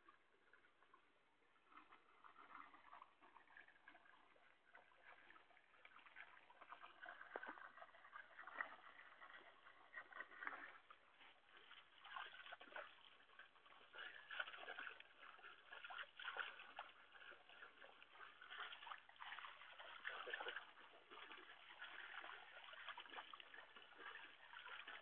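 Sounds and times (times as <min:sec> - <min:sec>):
water sloshing against a canoe: 0:00.0 - 0:25.0.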